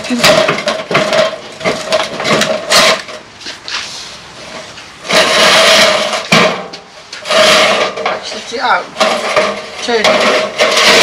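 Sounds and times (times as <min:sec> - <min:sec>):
steel capping scraping on wall: 0:00.0 - 0:11.0.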